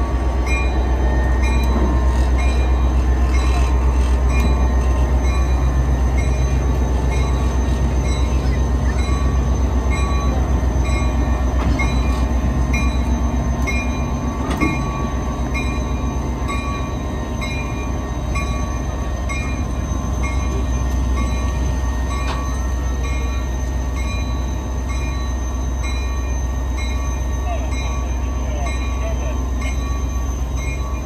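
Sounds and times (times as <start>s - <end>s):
high ringing tone: 0.0s - 31.0s
locomotive engine idling: 0.0s - 31.0s.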